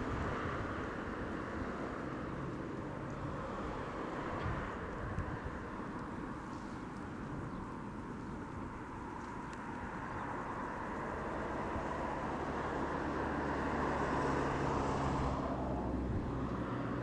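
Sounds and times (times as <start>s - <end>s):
outdoor background noise: 0.0s - 17.0s
passing vehicle engine hum: 0.0s - 17.0s.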